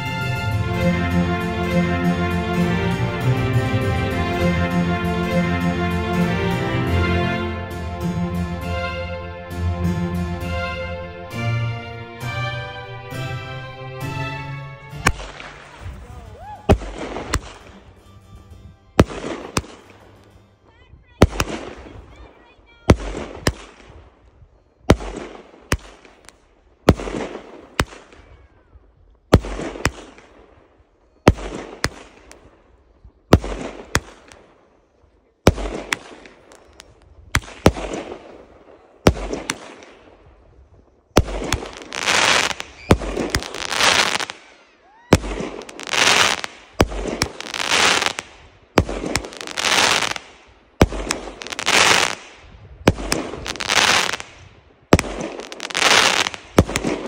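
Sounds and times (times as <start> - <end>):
fireworks bangs and crackle: 0.0 - 11.6, 13.9 - 57.0.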